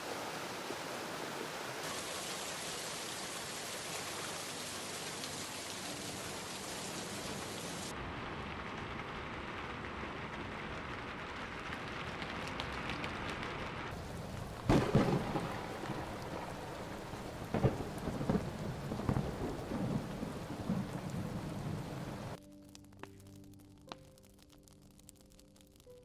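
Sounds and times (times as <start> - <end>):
rain falling: 0.0 - 26.0
rain striking an umbrella: 1.8 - 26.0.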